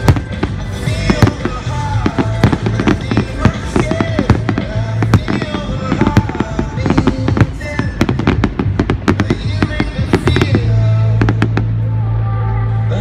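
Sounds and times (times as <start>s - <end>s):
fireworks bangs and crackles: 0.0s - 11.8s
music playing: 0.0s - 13.0s.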